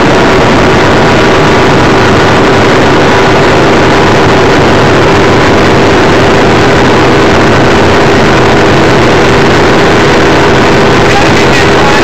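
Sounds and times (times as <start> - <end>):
outboard motor hum: 0.0 - 12.0
rush of wind and water: 0.0 - 12.0.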